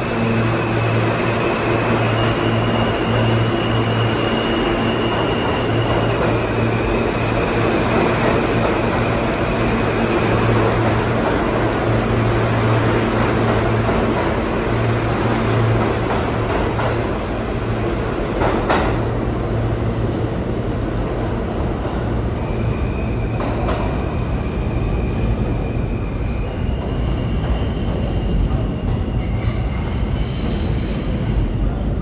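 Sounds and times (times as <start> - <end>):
subway train running noise: 0.0 - 32.0.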